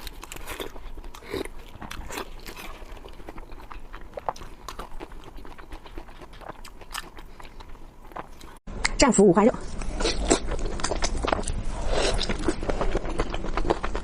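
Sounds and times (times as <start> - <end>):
person chewing food: 0.0 - 8.6, 9.6 - 14.0.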